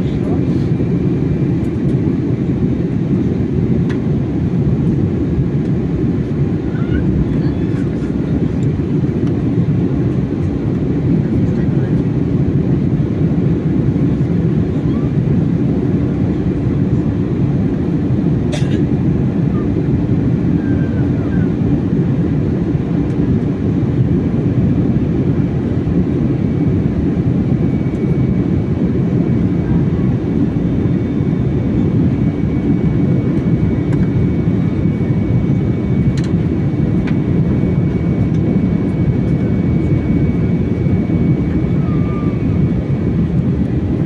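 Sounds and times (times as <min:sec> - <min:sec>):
jet engine cabin rumble: 0:00.0 - 0:44.0.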